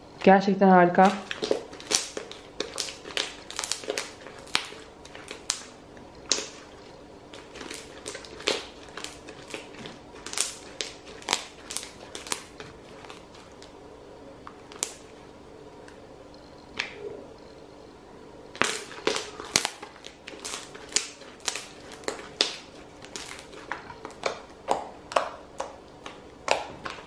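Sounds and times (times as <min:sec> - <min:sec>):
slime crackling and popping: 0:01.0 - 0:13.8, 0:14.5 - 0:15.1, 0:18.5 - 0:27.0.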